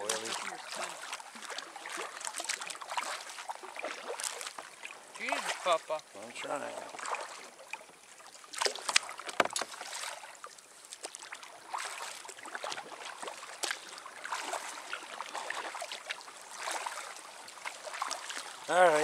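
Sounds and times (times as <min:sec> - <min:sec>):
paddle splashing through water: 0:00.0 - 0:19.0.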